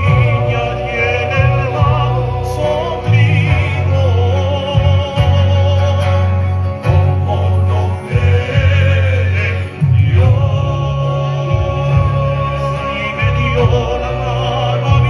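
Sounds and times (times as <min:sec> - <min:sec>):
brass band playing a hymn: 0:00.0 - 0:15.0
voices singing: 0:00.0 - 0:15.0.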